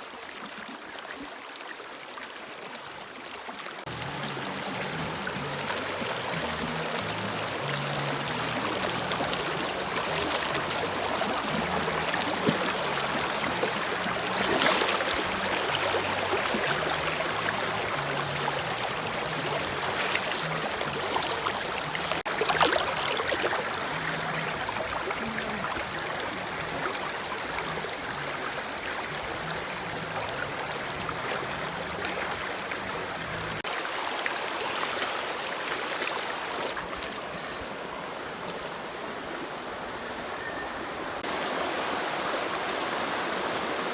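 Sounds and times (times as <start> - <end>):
creek water rushing over rocks: 0.0 - 43.9.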